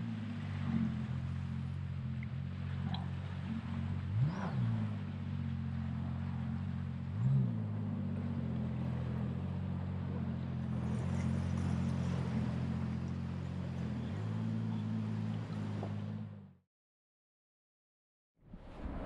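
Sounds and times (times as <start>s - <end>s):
boat engine revving: 0.0s - 16.6s.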